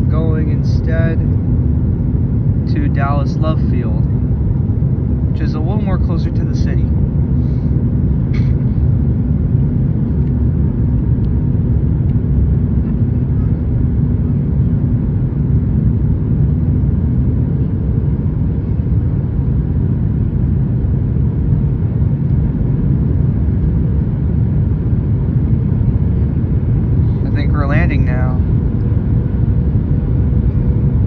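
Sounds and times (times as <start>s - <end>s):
airplane cabin rumble: 0.0s - 31.0s
faint hum: 0.0s - 31.0s.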